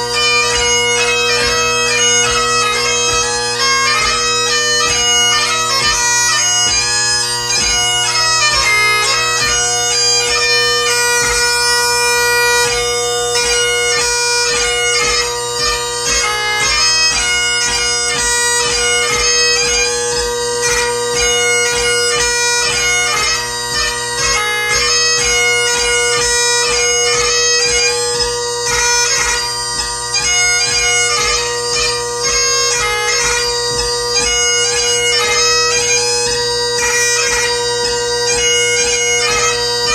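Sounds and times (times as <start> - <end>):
bagpipe chanter melody: 0.0 - 39.9
bagpipe drones: 0.0 - 39.9.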